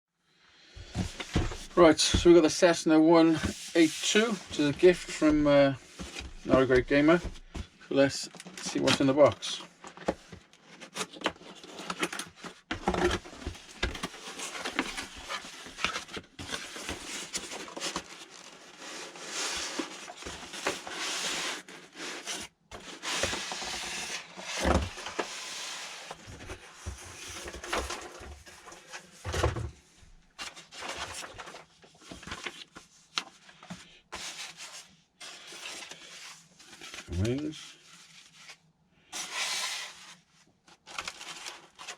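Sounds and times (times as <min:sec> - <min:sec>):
packaging rustling and scraping: 0:00.8 - 0:41.9.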